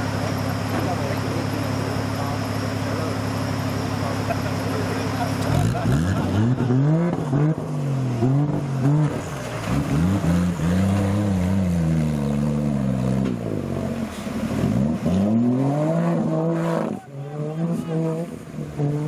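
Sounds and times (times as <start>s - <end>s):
water splashing around wheels: 0.0s - 17.0s
off-road engine revving: 0.0s - 19.0s.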